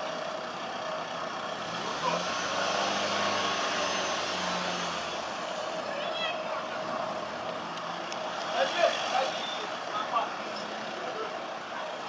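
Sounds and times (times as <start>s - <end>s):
street noise: 0.0s - 12.0s
vehicle engine humming: 0.0s - 12.0s.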